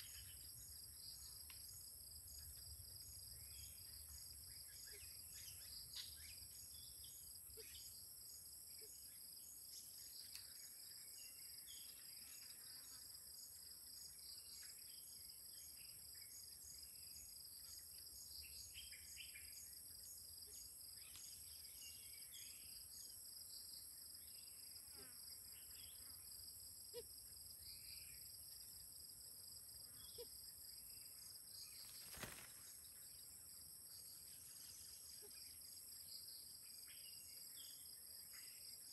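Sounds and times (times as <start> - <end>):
high-pitched insect chorus: 0.0 - 38.9
insect fast trill: 0.0 - 38.9.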